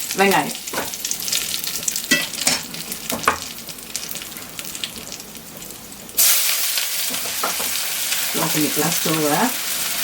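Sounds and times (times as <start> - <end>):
oil sizzling in a pan: 0.0 - 10.0
onions hissing in hot oil: 0.0 - 10.0.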